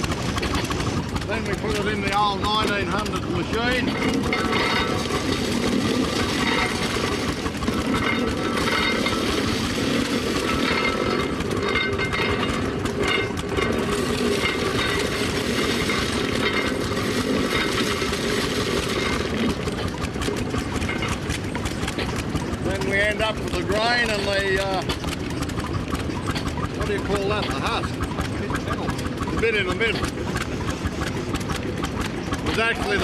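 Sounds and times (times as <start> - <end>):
threshing machine rattling: 0.0 - 33.0.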